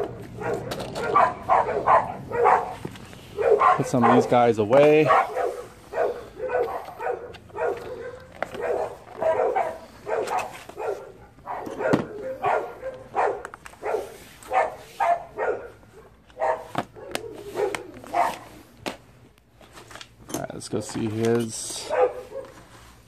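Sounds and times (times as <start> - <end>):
dog barking: 0.0 - 2.8, 3.4 - 18.5, 21.8 - 22.6.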